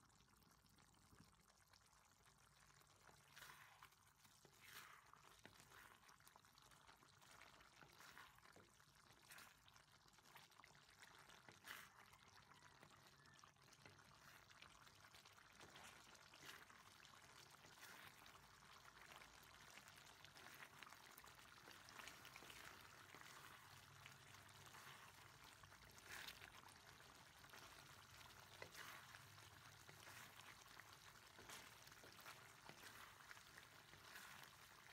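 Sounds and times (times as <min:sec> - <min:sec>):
food simmering in a wok: 0:00.0 - 0:34.9
wooden spatula scraping a pan: 0:03.0 - 0:12.1, 0:13.7 - 0:34.9.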